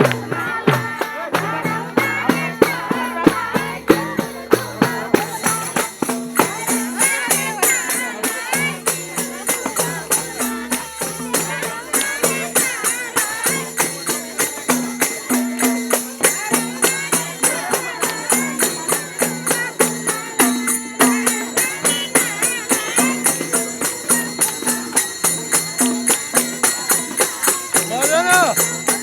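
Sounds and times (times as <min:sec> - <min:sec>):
fast percussion beat: 0:00.0 - 0:29.0.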